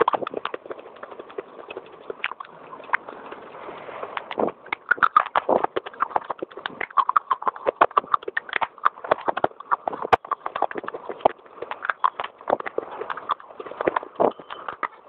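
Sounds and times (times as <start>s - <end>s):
crunching of clay being chewed: 0.0s - 15.0s.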